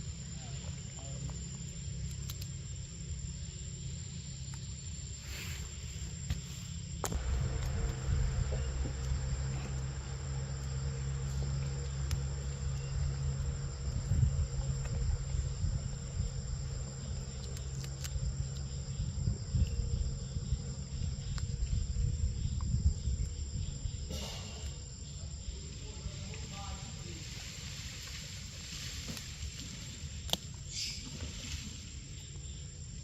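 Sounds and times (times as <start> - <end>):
low rumble: 0.0 - 30.3
insects chirring: 0.0 - 33.0.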